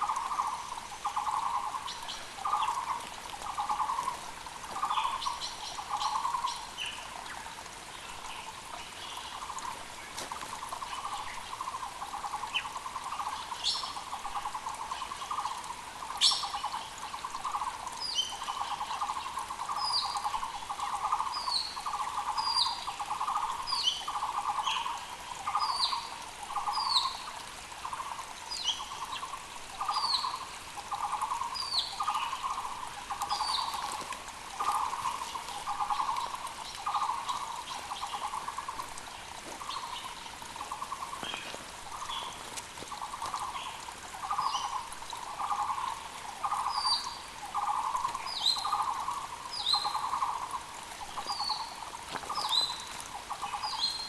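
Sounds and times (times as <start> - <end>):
creek rushing: 0.0 - 54.0.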